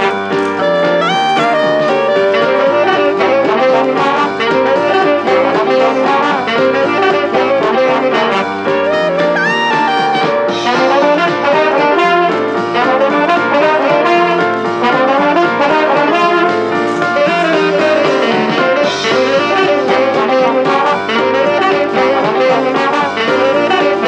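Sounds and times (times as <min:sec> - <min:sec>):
jazz with brass melody: 0:00.0 - 0:24.0.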